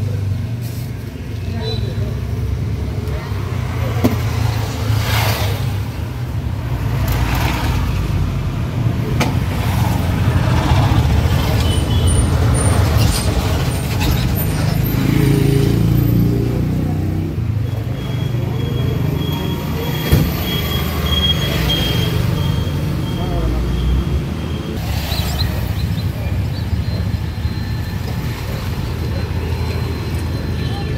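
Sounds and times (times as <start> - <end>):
autorickshaw engine running: 0.0 - 30.9.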